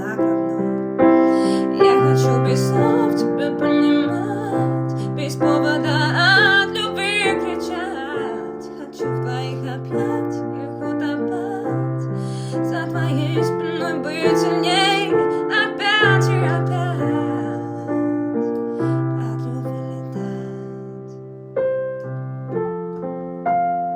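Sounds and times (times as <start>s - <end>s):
woman singing: 0.0s - 21.2s
piano chords: 0.0s - 23.9s.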